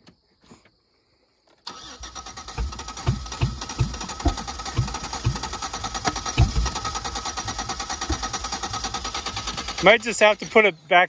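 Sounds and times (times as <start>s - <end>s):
engine cranking by starter: 1.6s - 10.8s.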